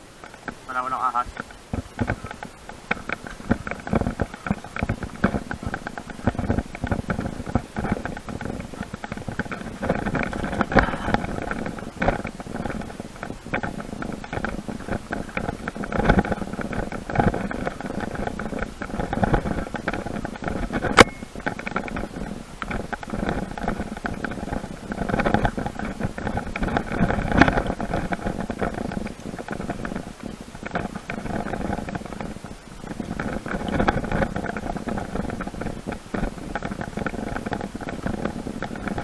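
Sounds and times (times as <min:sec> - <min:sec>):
tyres rumbling on dirt: 0:00.0 - 0:39.0
bicycle rattling and clattering: 0:01.3 - 0:39.0.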